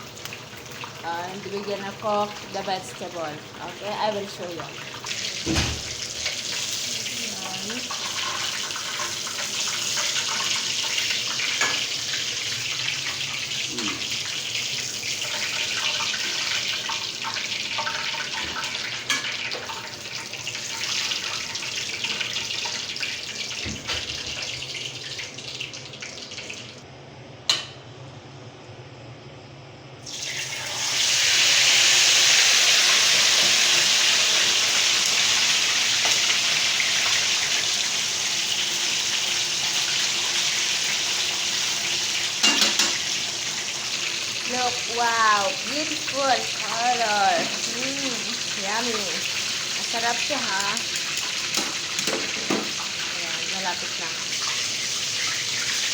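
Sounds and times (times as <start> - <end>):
chicken frying in hot oil: 0.0 - 26.8, 30.0 - 55.9.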